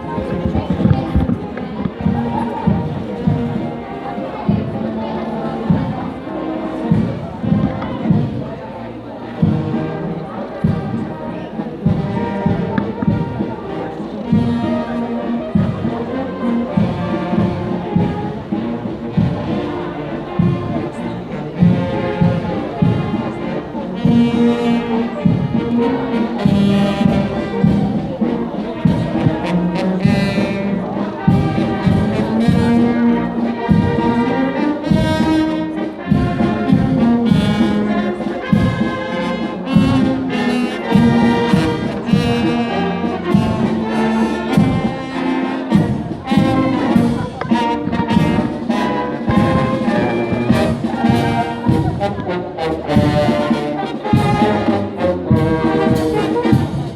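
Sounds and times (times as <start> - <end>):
brass band playing a march: 0.0 - 56.9.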